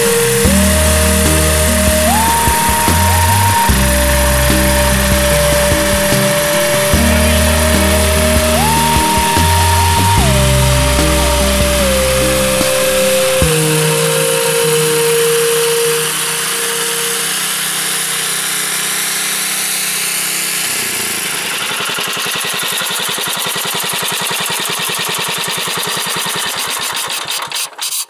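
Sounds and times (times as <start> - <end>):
tractor engine chugging: 0.0 - 28.0.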